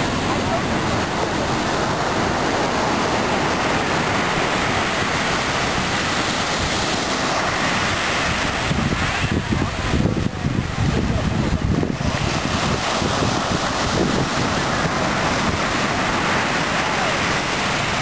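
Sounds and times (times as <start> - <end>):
ocean waves breaking on beach: 0.0 - 18.0
wind rumbling on microphone: 0.0 - 18.0.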